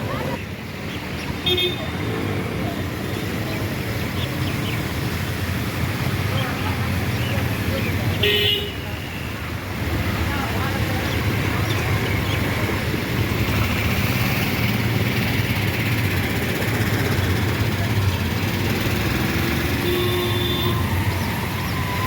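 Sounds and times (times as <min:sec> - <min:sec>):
traffic rumble and hiss: 0:00.0 - 0:22.0.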